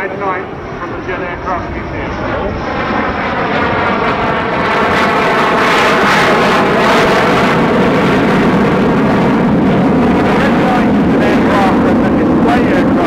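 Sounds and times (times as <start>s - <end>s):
jet aircraft passing low: 0.0s - 13.0s.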